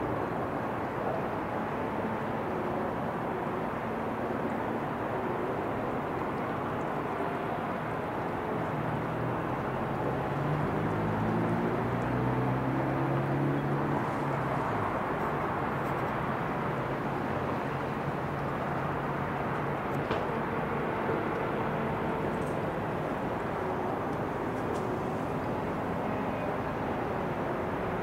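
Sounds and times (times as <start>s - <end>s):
distant city traffic hum: 0.0s - 28.0s
vehicle engine drone: 0.0s - 28.0s.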